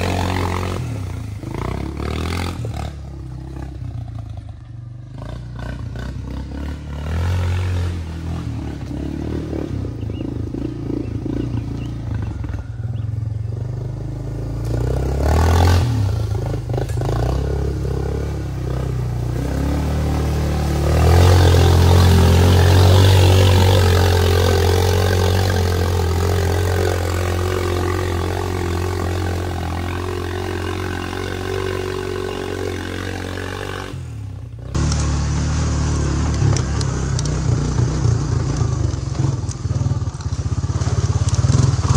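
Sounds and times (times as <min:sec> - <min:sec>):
quad engine revving: 0:00.0 - 0:41.9.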